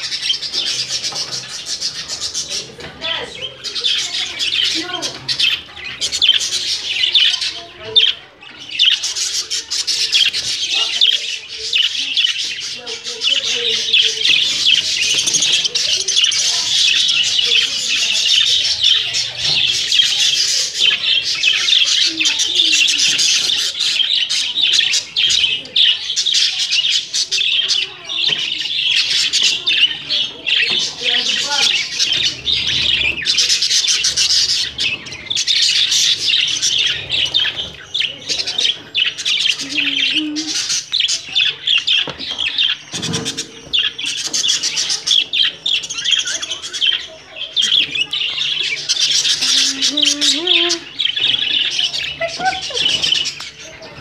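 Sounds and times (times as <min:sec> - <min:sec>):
budgerigars chattering and chirping: 0:00.0 - 0:54.0.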